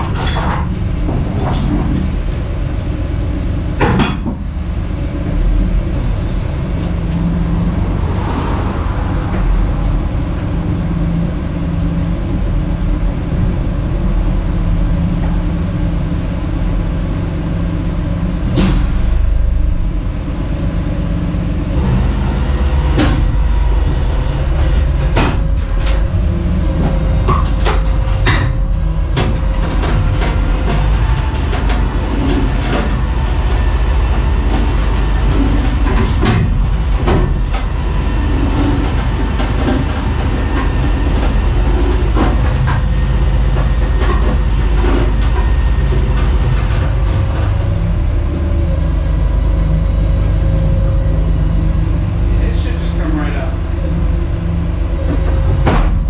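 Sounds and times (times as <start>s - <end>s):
knocks clanks and creaks: 0.0s - 17.1s, 21.8s - 56.0s
truck engine rumbling: 0.0s - 56.0s.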